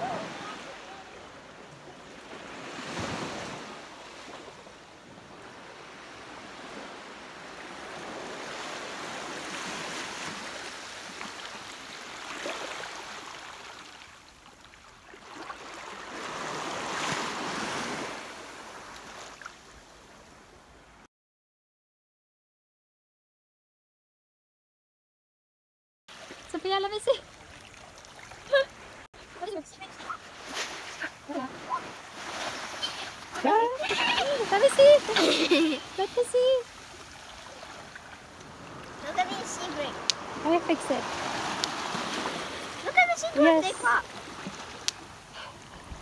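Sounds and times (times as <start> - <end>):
small waves washing onto beach: 0.0 - 21.0, 26.1 - 46.0.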